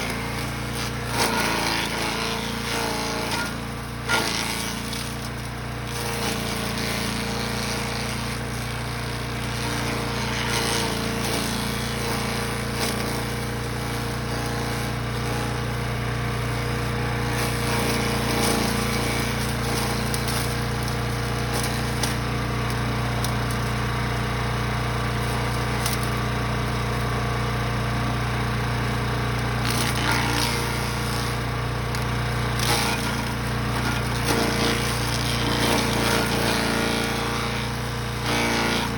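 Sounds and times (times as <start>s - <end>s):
chipper-shredder engine running: 0.0s - 38.9s.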